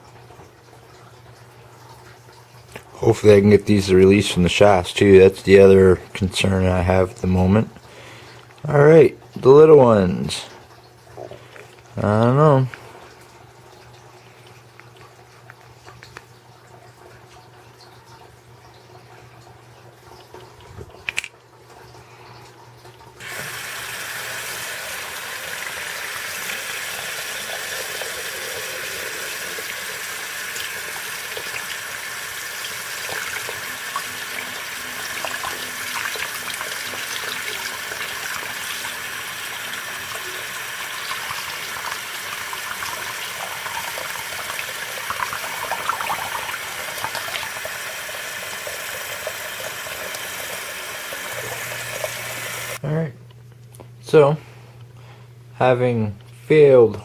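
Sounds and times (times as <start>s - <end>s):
water running from a tap: 0.0s - 52.8s.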